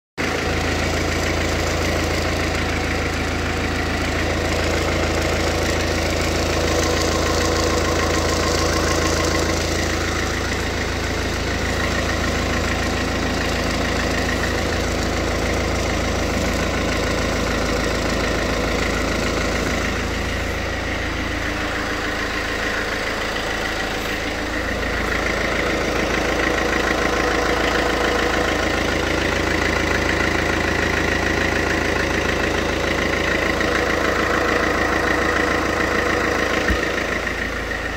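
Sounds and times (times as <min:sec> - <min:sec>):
car engine idling: 0:00.2 - 0:37.9.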